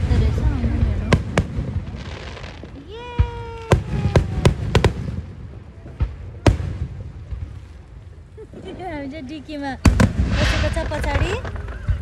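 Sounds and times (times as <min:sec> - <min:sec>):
fireworks bursting: 0:00.0 - 0:07.6, 0:09.7 - 0:12.0.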